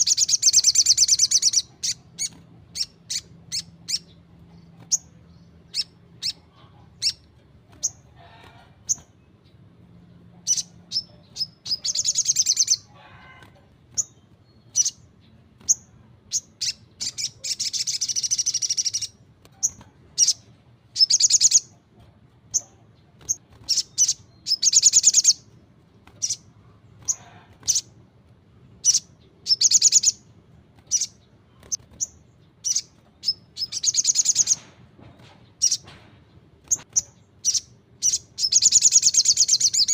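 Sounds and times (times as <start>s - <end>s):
sunbird chirping and trilling: 0.0s - 8.2s, 8.8s - 13.0s, 14.0s - 21.8s, 22.5s - 28.0s, 28.8s - 34.6s, 36.6s - 39.9s.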